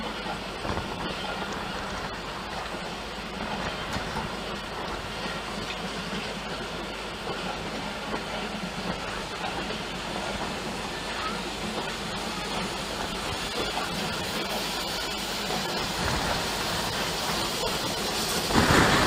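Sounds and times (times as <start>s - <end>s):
train coaches rolling on rails: 0.0s - 19.0s.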